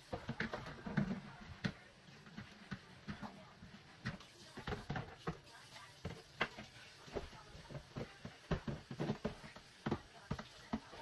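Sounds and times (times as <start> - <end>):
kitchen items knocking and clattering: 0.0 - 11.0.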